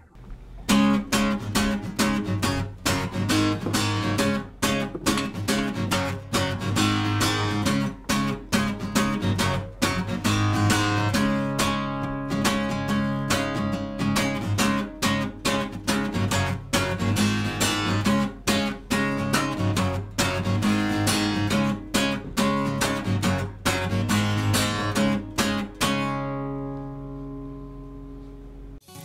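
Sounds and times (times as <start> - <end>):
strummed acoustic guitar: 0.2 - 29.0.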